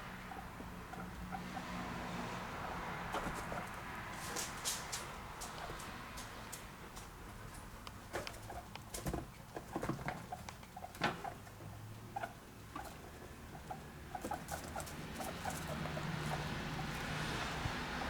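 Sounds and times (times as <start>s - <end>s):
guinea pigs munching: 3.1s - 18.0s.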